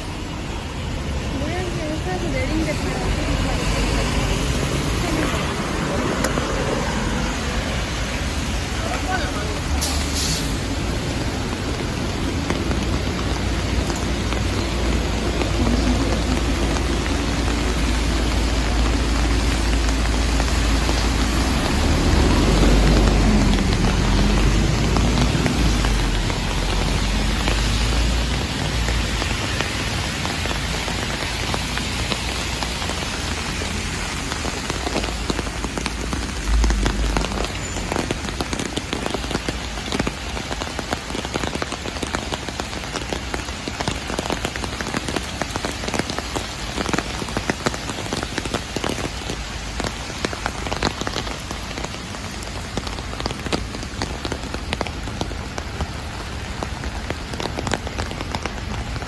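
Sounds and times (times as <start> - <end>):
heavy rain on a street: 0.0 - 59.0
rain pattering on an umbrella: 0.0 - 59.0.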